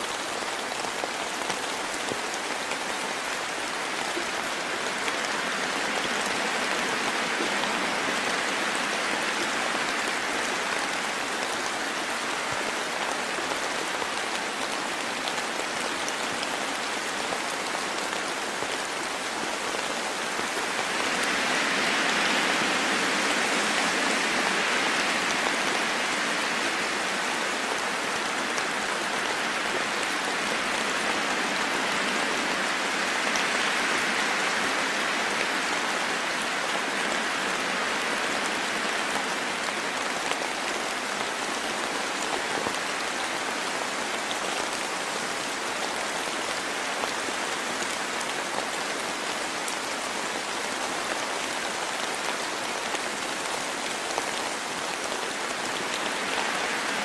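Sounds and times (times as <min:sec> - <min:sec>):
rain on leaves and ground: 0:00.0 - 0:57.0.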